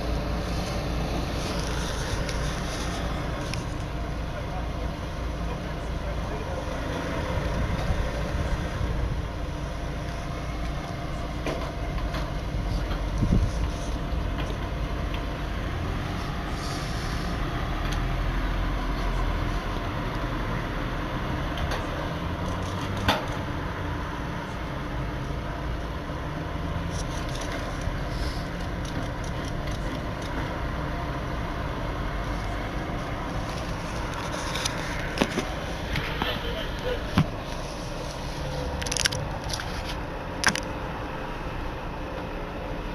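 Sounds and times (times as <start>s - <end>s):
street noise: 0.0s - 42.9s
vehicle engine running: 0.0s - 42.9s.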